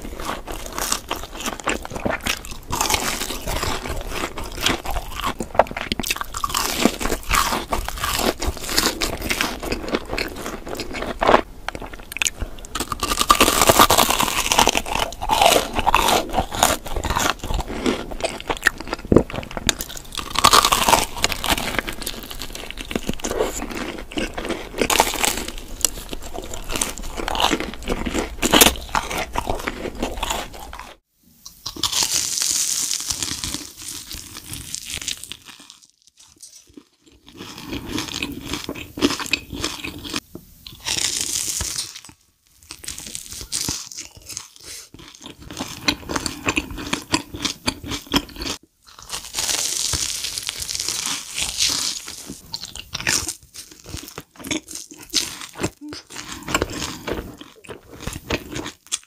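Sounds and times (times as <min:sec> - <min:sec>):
crunchy food chewing: 0:00.0 - 0:59.0.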